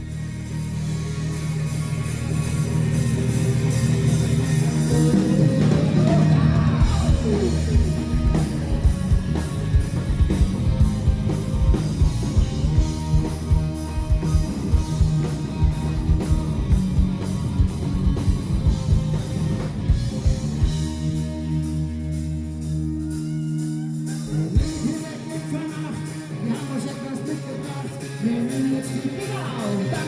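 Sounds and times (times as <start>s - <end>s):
steady drum beat: 0.0s - 26.6s
live rock band playing: 0.0s - 30.0s.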